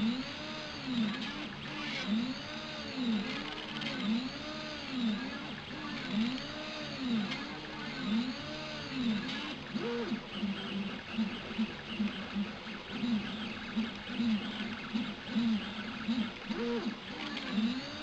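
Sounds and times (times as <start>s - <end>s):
stepper motors whining: 0.0s - 18.0s.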